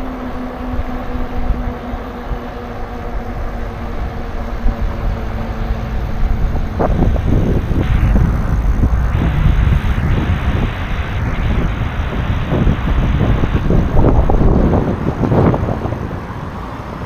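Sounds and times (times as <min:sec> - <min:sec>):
road noise: 0:00.0 - 0:17.0
steady low hum: 0:00.0 - 0:17.0
wind buffeting microphone: 0:00.0 - 0:17.0.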